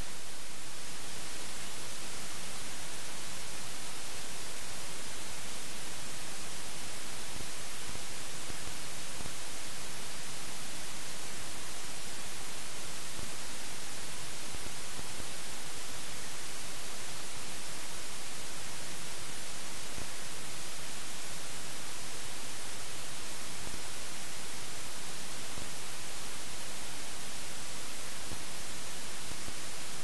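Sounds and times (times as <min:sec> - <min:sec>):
static hiss: 0:00.0 - 0:30.0.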